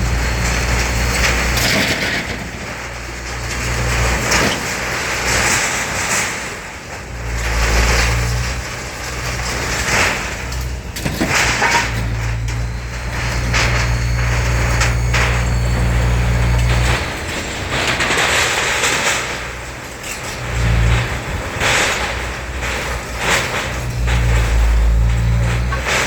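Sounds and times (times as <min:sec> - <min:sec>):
diesel engine humming: 0:00.0 - 0:26.0
scrap metal scraping and clanking: 0:00.0 - 0:26.0.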